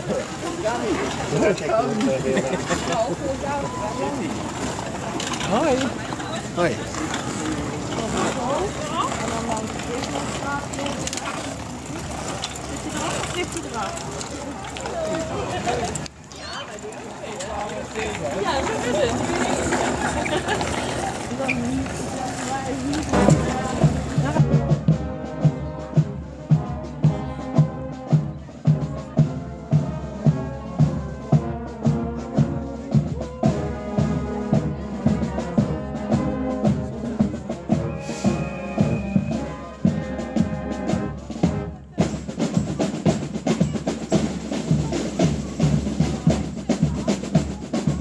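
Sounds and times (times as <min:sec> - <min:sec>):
bass and snare drums: 0:00.0 - 0:16.5, 0:17.1 - 0:48.0
marching band playing: 0:00.0 - 0:48.0.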